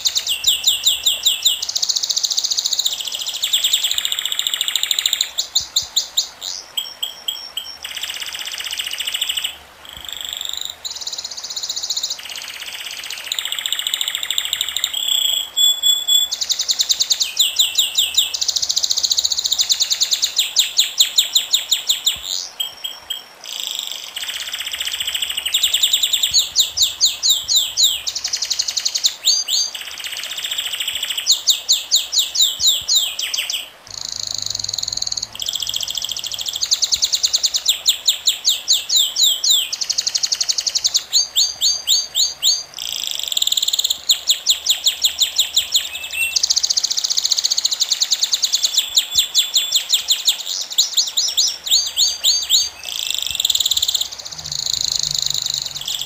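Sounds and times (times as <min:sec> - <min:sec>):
songbird trilling: 0:00.0 - 0:56.0.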